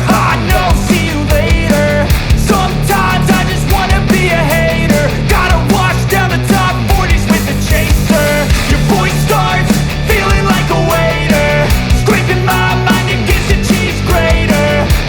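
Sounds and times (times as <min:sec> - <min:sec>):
rock music with drum beat: 0:00.0 - 0:15.0.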